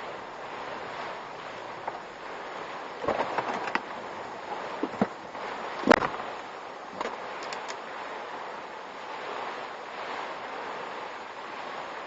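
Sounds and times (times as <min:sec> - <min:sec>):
wind and rain rushing: 0:00.0 - 0:12.0.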